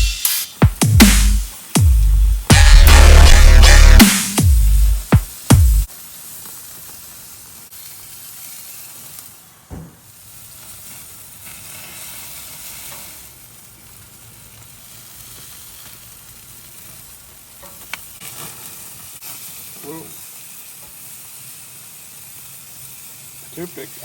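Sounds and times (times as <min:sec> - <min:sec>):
steak sizzling on a grill: 0:01.5 - 0:02.4, 0:05.3 - 0:24.0.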